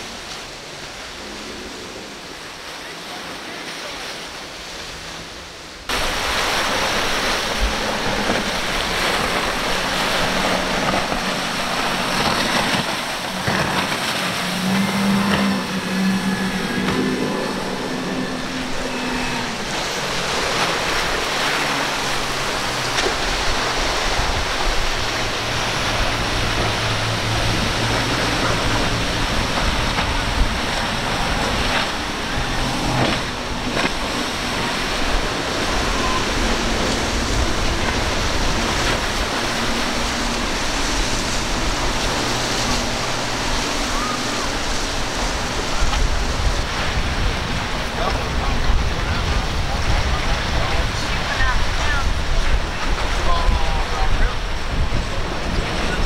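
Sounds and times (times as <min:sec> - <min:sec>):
outboard engines droning: 0:00.0 - 0:56.0
rough surf and spray hissing: 0:00.0 - 0:56.0.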